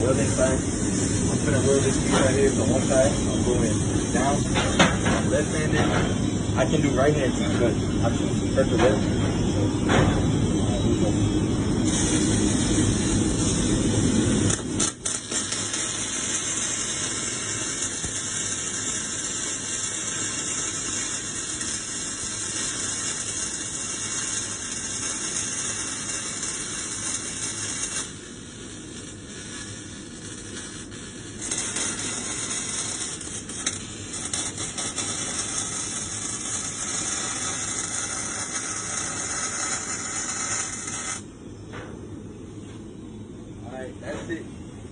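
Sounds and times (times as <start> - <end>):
welding arc crackling and hissing: 0.0 - 41.4.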